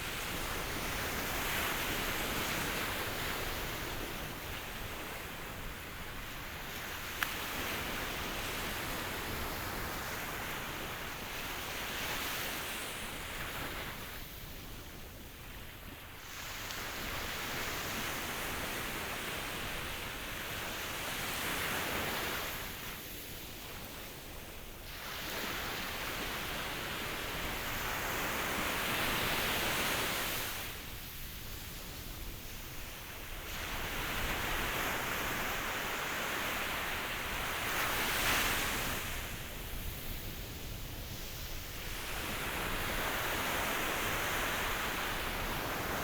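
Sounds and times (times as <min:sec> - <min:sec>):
waves breaking and washing in: 0:00.0 - 0:46.0.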